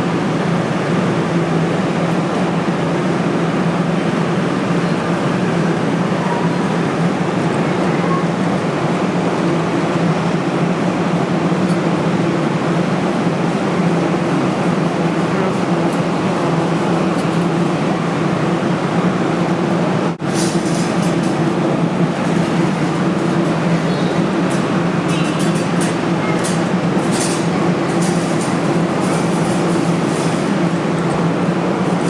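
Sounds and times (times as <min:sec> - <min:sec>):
loud mechanical hum: 0:00.0 - 0:32.0.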